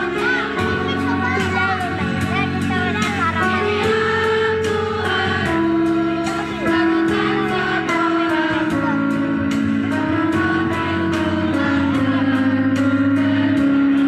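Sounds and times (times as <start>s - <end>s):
children's choir singing: 0.0s - 14.0s
instrumental backing with beat: 0.0s - 14.0s.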